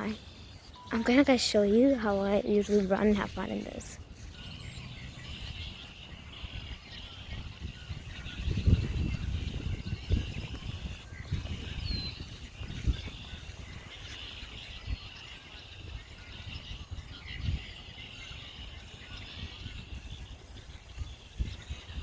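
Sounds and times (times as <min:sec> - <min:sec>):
birds chirping: 0:00.0 - 0:22.0
wind rumble: 0:00.0 - 0:22.0.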